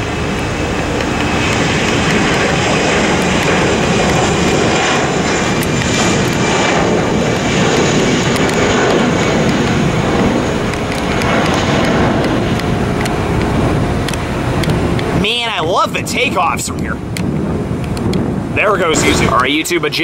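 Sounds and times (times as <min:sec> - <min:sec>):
jet engines at takeoff thrust: 0:00.0 - 0:20.0.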